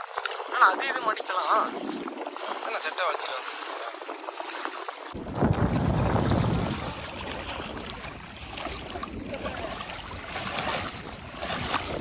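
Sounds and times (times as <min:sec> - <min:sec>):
water: 0:00.0 - 0:12.0
wind: 0:00.0 - 0:12.0.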